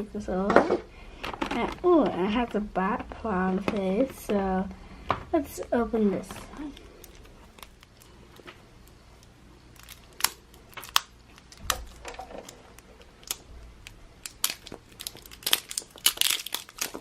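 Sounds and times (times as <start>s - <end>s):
packaging clicks and crinkles: 1.1s - 4.6s, 6.0s - 17.0s.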